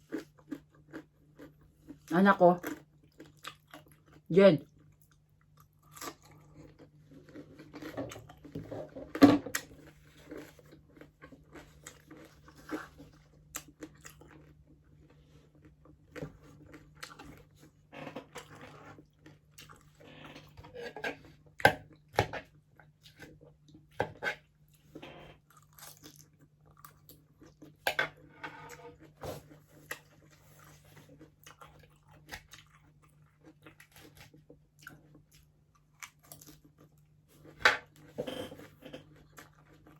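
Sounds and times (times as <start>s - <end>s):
chewing and crunching crispy pork: 0.0s - 39.9s.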